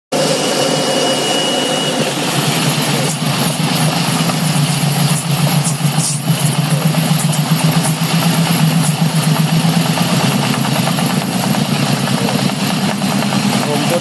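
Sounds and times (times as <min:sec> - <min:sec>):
grass chopper engine hum: 0:00.2 - 0:14.0.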